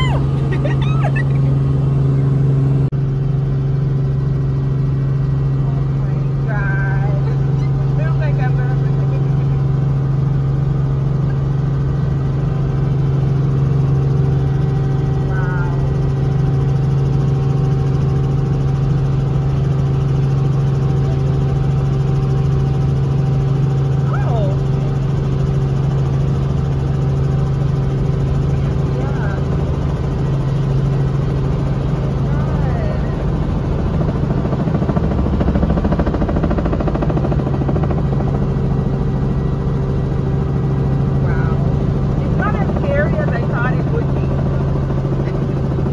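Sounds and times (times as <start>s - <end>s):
helicopter cabin drone: 0.0s - 45.9s.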